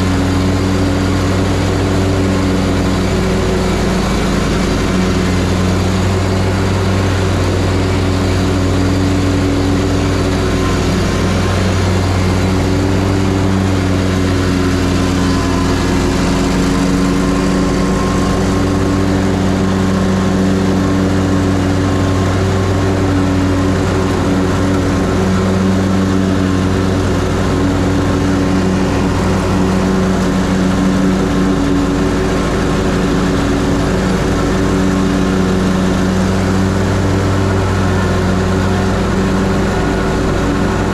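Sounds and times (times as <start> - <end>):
mower engine droning: 0.0 - 40.9.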